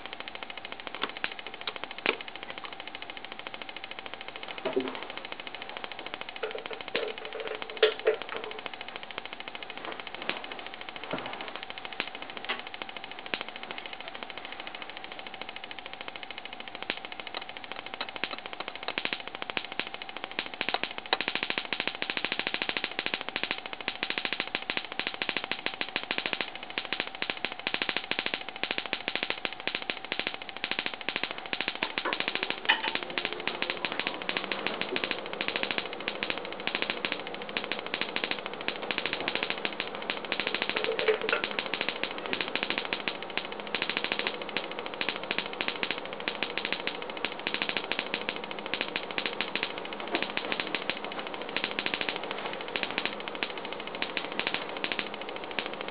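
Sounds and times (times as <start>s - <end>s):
electric sparks snapping: 0.0s - 55.9s.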